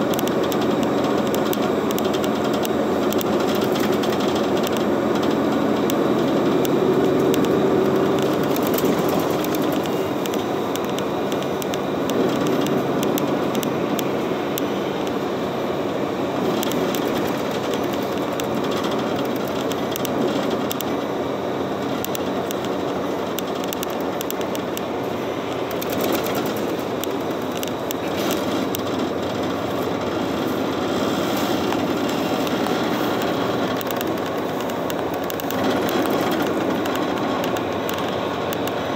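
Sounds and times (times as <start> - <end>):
faint clicks and rattles: 0.0 - 15.2, 16.4 - 21.2, 21.8 - 38.9
bus engine and tyre rumble: 0.0 - 38.9.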